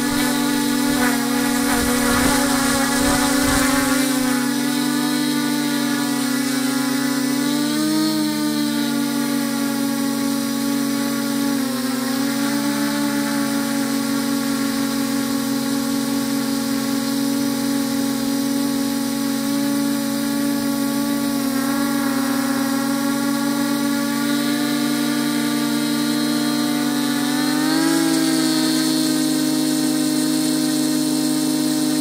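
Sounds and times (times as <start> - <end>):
drone propellers whining: 0.0 - 14.7, 18.4 - 32.0.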